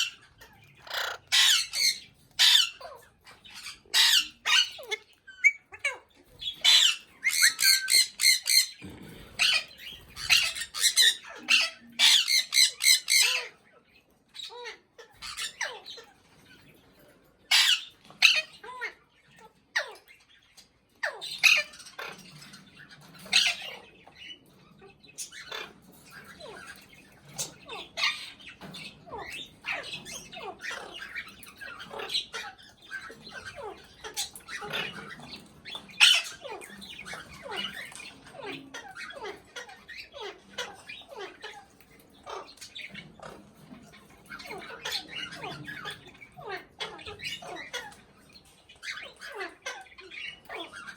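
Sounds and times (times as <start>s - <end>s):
parrot squawking and chattering: 0.0s - 50.9s.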